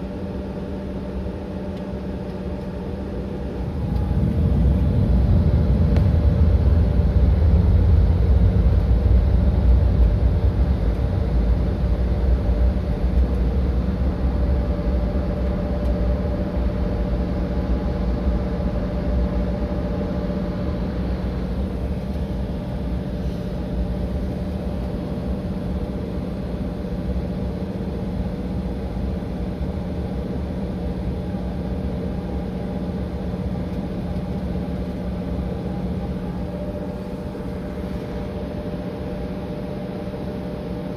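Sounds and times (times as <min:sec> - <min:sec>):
jet engine cabin drone: 0:00.0 - 0:40.9.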